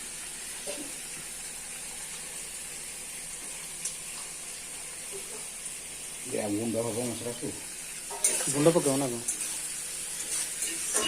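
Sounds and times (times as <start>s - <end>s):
spices and onion sizzling in oil: 0.0s - 11.0s.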